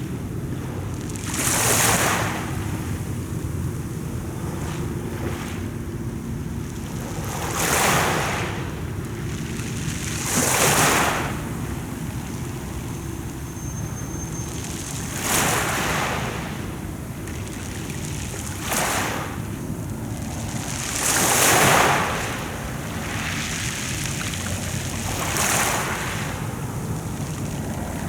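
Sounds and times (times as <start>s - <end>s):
sea waves washing in: 0.0s - 28.0s
wind buffeting microphone: 0.0s - 28.0s.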